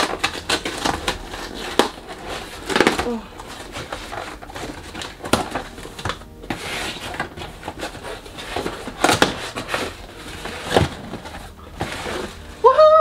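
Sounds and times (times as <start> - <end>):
cardboard flaps rustling and knocking: 0.0 - 12.5
packing tape tearing: 0.0 - 12.7.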